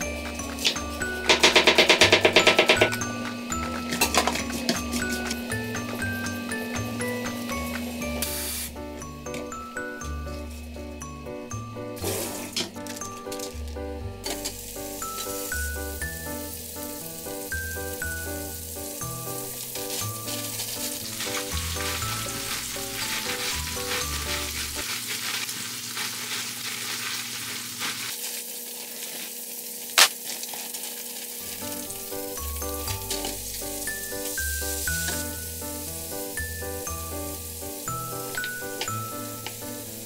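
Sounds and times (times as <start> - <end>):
food sizzling in a pan: 0.0 - 13.6, 14.2 - 40.0
light background music: 0.0 - 24.8, 31.5 - 40.0.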